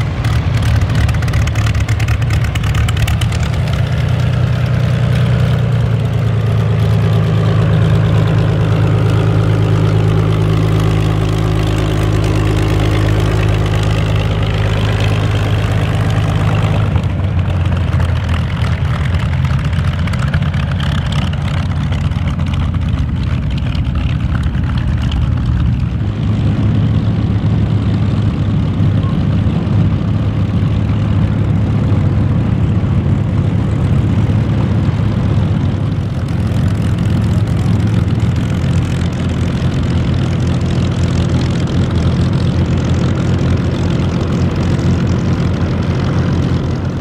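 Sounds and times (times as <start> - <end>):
propeller engine drone: 0.0 - 47.0.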